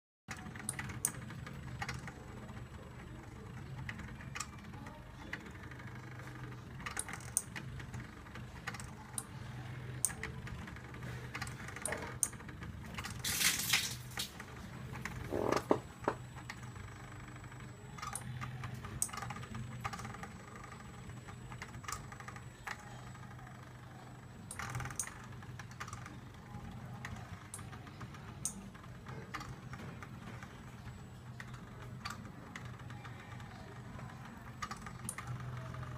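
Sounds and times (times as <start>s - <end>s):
steady low hum: 0.3s - 35.9s
stepper motors clicking: 0.3s - 35.9s.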